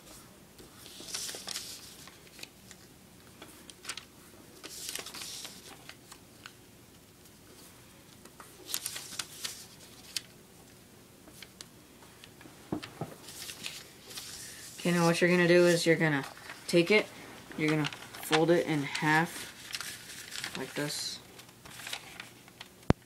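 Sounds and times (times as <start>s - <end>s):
paper rustling: 0.0s - 6.6s, 7.2s - 10.3s, 12.8s - 22.9s.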